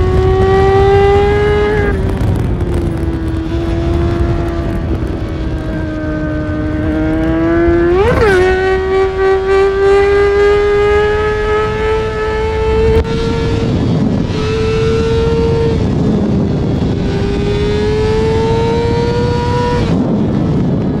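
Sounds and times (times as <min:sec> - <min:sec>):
motorcycle engine revving high: 0:00.0 - 0:21.0
wind rushing: 0:00.0 - 0:21.0.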